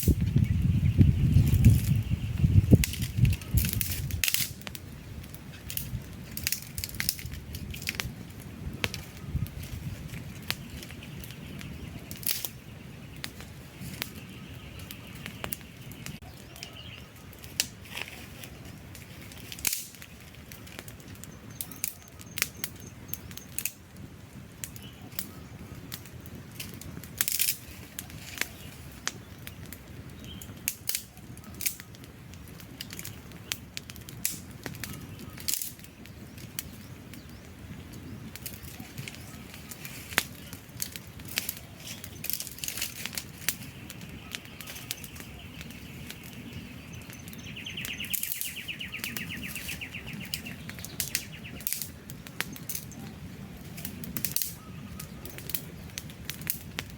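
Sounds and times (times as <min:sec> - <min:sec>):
campfire crackling and popping: 0:00.0 - 0:56.9
low roar of flames: 0:00.0 - 0:56.9.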